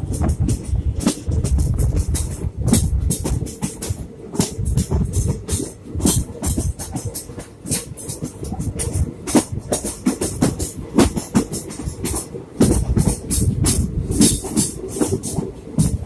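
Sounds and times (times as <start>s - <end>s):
train wheels clattering: 0.0s - 16.0s.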